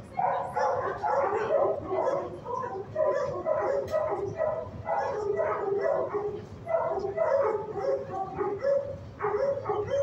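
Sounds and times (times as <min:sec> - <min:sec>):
dogs barking and yipping: 0:00.2 - 0:10.0.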